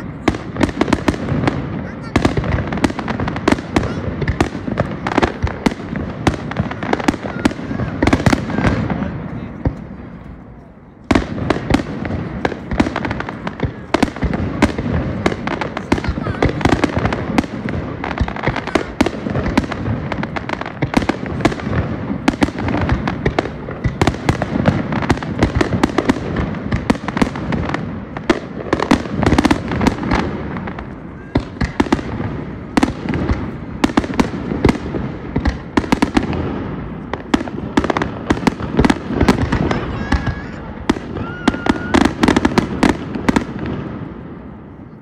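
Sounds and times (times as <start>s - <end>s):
firework bursts and bangs: 0.0s - 45.0s
fireworks crackle: 0.0s - 45.0s.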